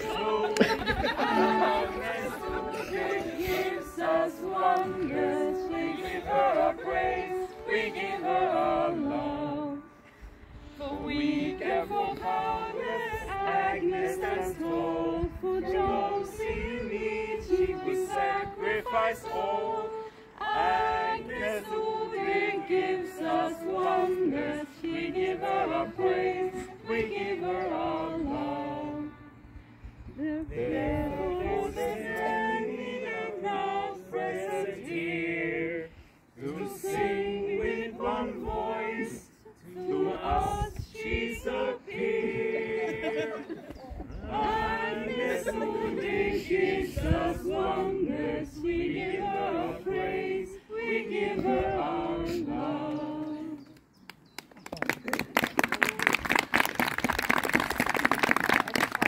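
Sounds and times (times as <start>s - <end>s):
group singing a cappella: 0.0s - 29.4s, 30.0s - 53.8s.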